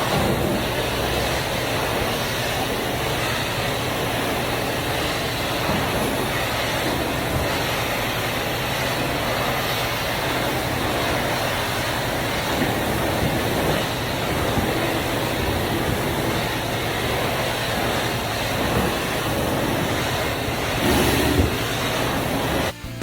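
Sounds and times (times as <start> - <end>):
vacuum extraction rushing: 0.0 - 23.0.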